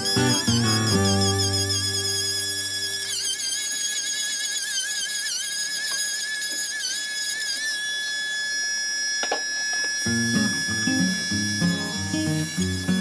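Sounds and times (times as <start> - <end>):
rotary carving tool whining: 0.0 - 13.0.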